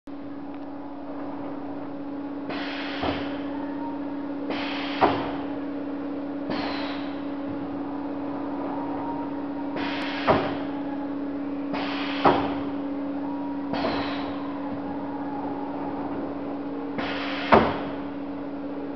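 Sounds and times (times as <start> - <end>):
motor hum: 0.1 - 18.9.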